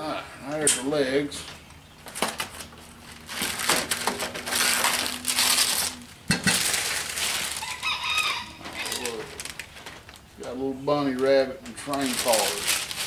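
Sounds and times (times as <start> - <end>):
cardboard and packing rustling: 2.0 - 13.0.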